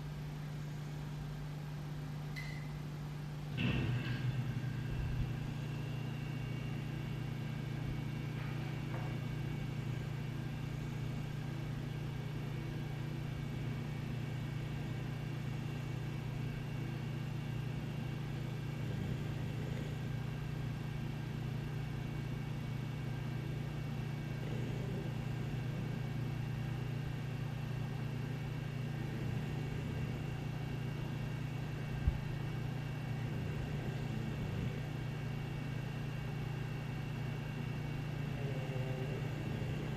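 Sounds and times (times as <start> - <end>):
low household hum: 0.0 - 39.9.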